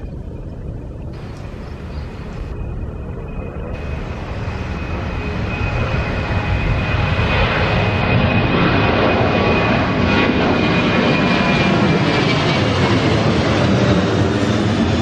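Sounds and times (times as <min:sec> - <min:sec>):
high engine whine: 0:00.0 - 0:15.0
jet engines running: 0:00.0 - 0:15.0.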